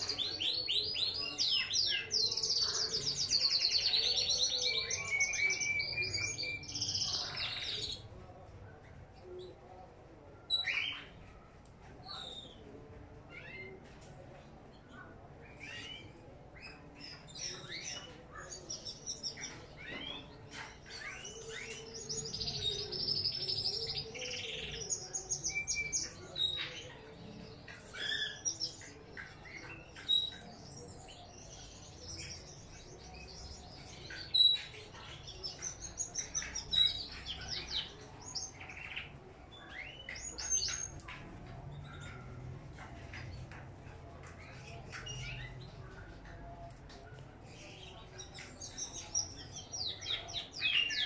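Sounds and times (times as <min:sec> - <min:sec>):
birds chirping and singing: 0:00.0 - 0:51.0.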